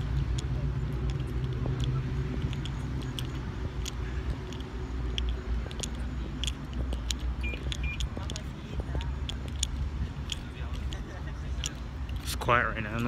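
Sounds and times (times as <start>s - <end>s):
footsteps: 0.0s - 13.0s
low steady rumble: 0.0s - 13.0s.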